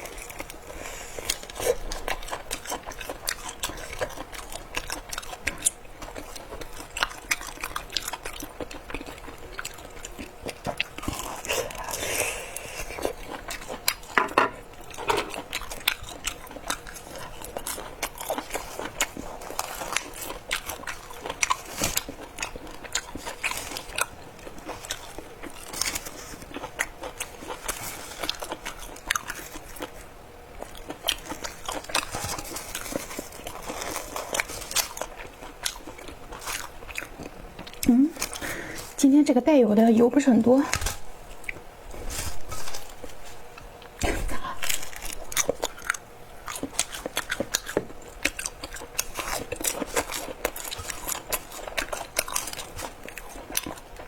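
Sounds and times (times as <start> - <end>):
crunchy biting and chewing: 0.0 - 39.0, 40.7 - 54.0.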